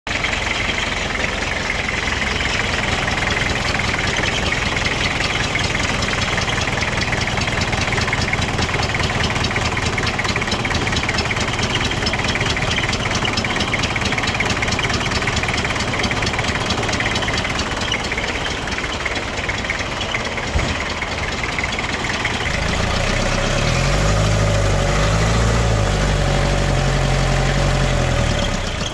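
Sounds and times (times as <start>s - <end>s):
engine idling: 0.0s - 28.9s
fast even ticking: 0.1s - 28.9s.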